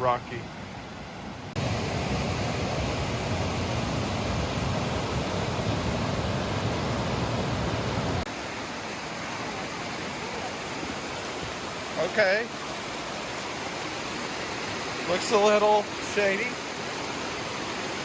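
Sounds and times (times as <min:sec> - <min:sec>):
water rushing over rocks: 0:01.5 - 0:18.0.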